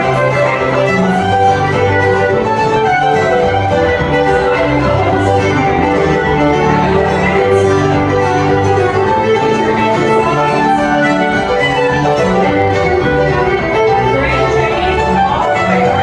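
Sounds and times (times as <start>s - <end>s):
fiddle music: 0.0s - 16.0s
guitar accompaniment: 0.0s - 16.0s.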